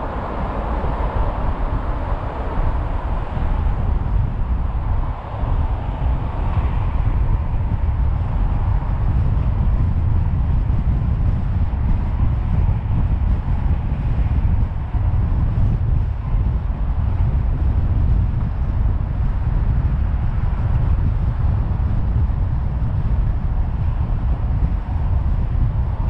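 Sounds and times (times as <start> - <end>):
road and tyre rumble: 0.0 - 26.0
wind on microphone: 0.0 - 26.0.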